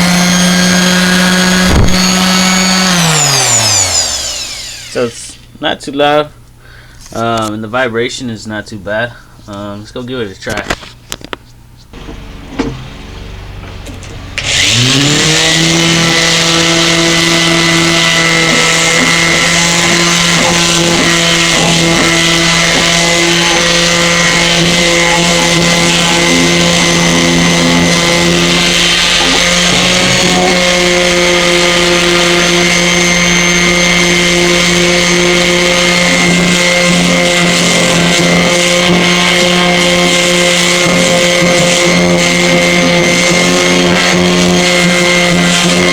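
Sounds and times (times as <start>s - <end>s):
orbital sander sanding wood: 0.0s - 5.5s, 11.9s - 45.9s.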